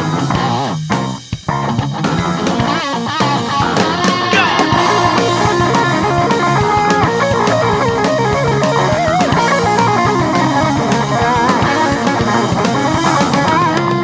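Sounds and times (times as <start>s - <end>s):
bass guitar: 0.0s - 14.0s
drums: 0.0s - 14.0s
electric guitar lead: 0.0s - 14.0s.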